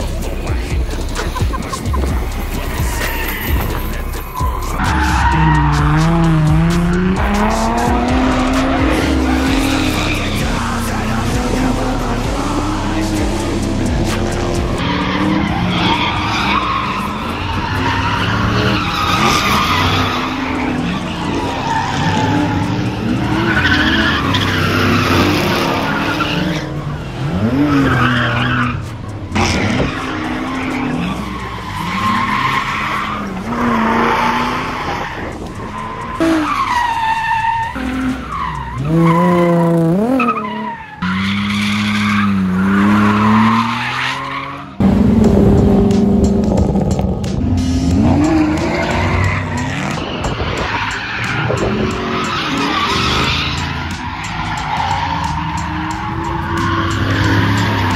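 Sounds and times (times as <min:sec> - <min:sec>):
tyres squealing: 0:00.0 - 0:44.8, 0:46.6 - 0:57.9
car engines revving hard: 0:00.0 - 0:57.9.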